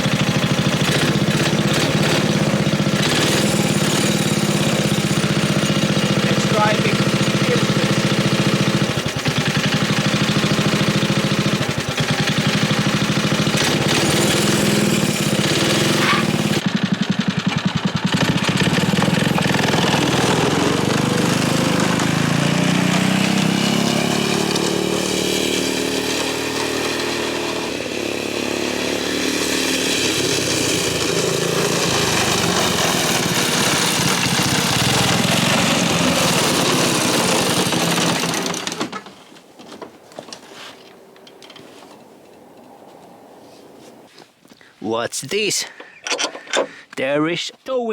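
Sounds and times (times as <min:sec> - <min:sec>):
small engine running: 0:00.0 - 0:39.1.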